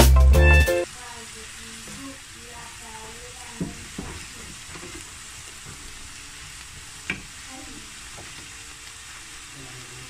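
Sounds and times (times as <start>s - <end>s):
vegetables sizzling in frying pan: 0.3s - 10.0s.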